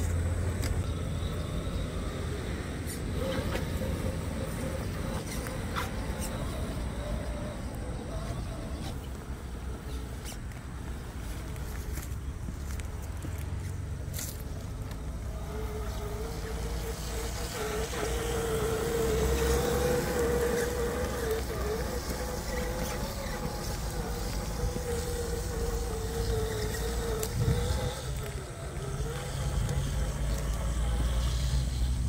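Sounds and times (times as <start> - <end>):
electric motor and gear whine: 0.0 - 32.0.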